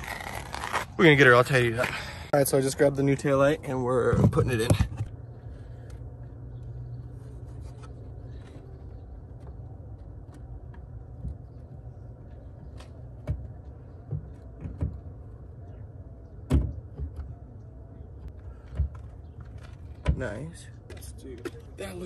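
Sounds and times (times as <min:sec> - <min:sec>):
steady low hum: 0:01.9 - 0:21.7.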